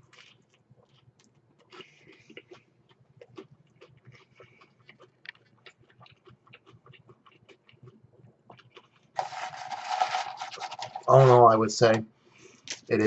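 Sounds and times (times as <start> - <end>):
crispy sandwich chewing: 0.0 - 11.5.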